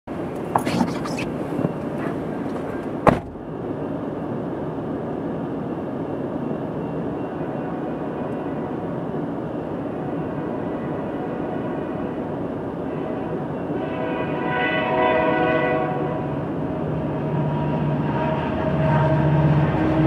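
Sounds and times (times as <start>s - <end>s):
diesel freight train rumble: 0.1s - 20.0s.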